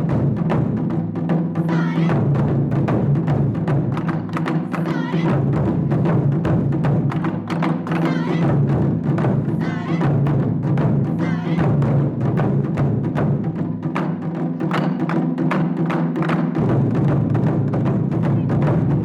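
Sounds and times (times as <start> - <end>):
taiko drum ensemble: 0.0 - 19.0.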